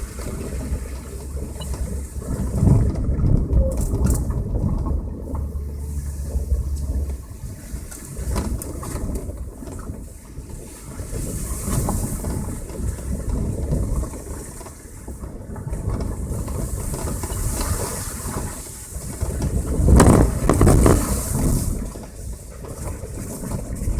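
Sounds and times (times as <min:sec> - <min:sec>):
car tyres rumbling: 0:00.0 - 0:23.9.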